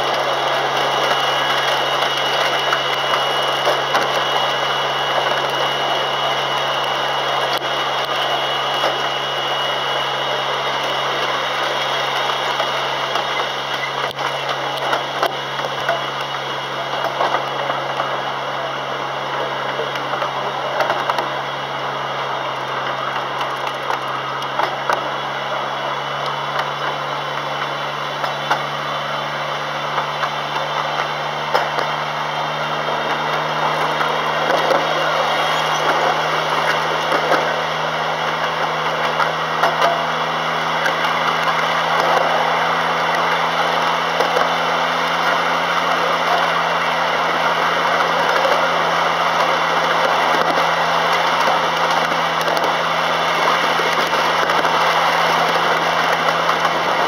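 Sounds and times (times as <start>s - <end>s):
miniature train engine drone: 0.0s - 57.0s
wheels rumbling on rail: 0.0s - 57.0s.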